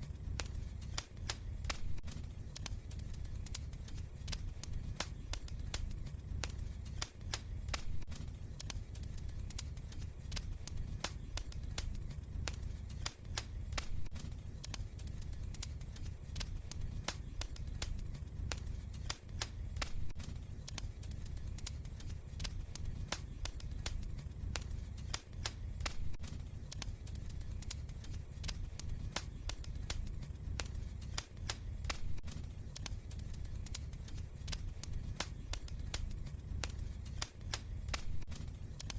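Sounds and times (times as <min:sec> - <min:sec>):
wood fire crackling: 0:00.0 - 0:38.9
sharp pops and snaps: 0:00.2 - 0:38.9.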